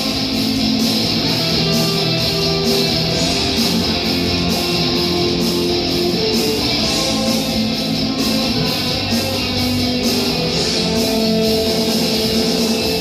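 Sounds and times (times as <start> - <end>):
electric guitar strumming: 0.0 - 13.0
live rock band playing: 0.0 - 13.0.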